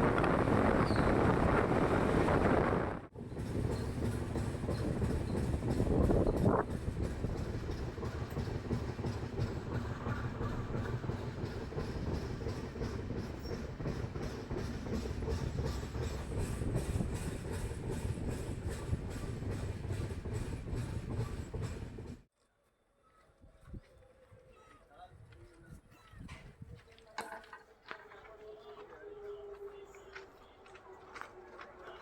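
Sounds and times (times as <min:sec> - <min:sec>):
train wheels clickety-clack: 0:00.0 - 0:22.3, 0:26.8 - 0:32.0.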